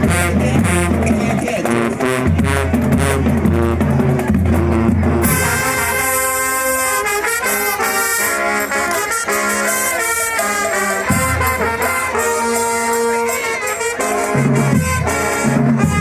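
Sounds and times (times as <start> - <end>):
deep low brass or drum notes: 0.0 - 16.0
marching band brass chords: 0.0 - 16.0.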